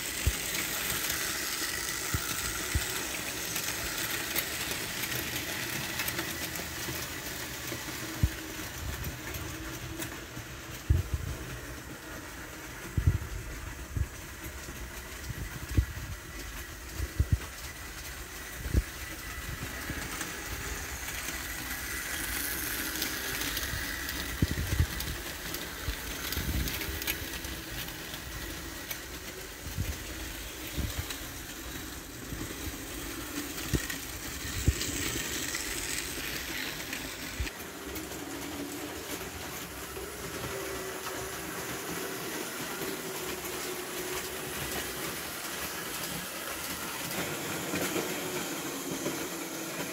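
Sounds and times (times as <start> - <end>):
model train motor whirr: 0.0 - 49.9
wheels clicking over rail joints: 0.0 - 49.9.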